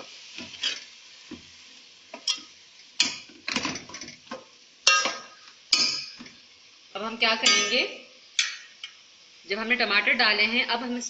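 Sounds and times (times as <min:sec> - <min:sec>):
meat frying: 0:00.0 - 0:11.0.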